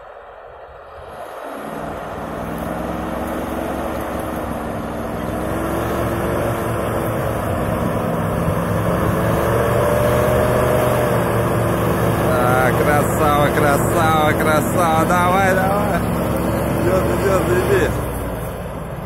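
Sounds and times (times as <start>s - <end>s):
atv engine revving: 1.6s - 19.0s.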